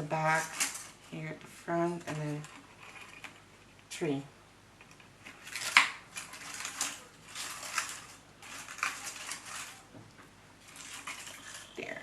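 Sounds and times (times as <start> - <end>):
paper flowers rustling and crinkling: 0.0 - 3.7, 5.1 - 12.0.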